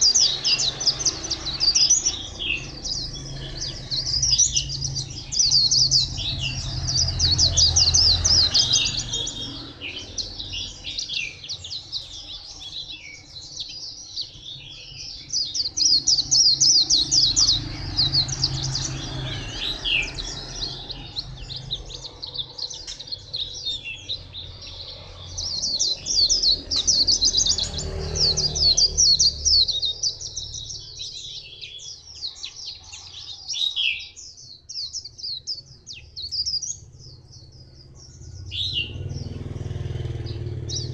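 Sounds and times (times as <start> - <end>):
bird twittering: 0.0 - 40.9.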